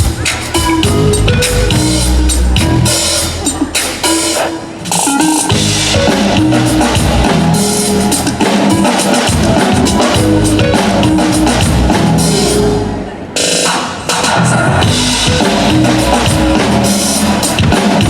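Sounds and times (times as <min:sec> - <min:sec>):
bass line: 0:00.0 - 0:13.3, 0:14.4 - 0:18.0
drum kit beat: 0:00.0 - 0:18.0
pop band music over pa: 0:00.0 - 0:18.0.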